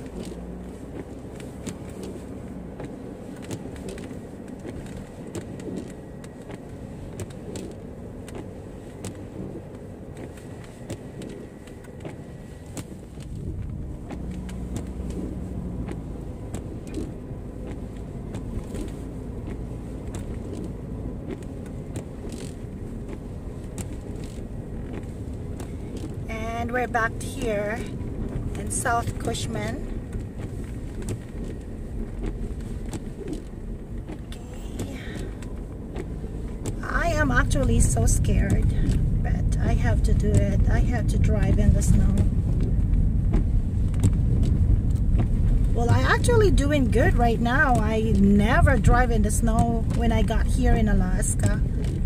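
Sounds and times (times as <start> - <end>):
car road and engine noise: 0.0 - 52.0
small clicks and ticks: 0.0 - 52.0.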